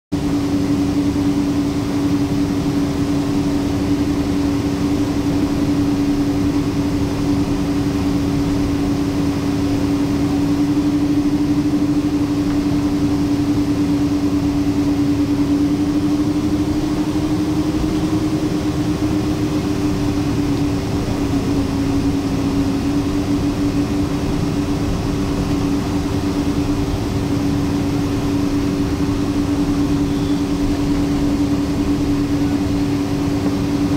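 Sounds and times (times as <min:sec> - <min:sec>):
aircraft cabin engine drone: 0:00.2 - 0:33.9.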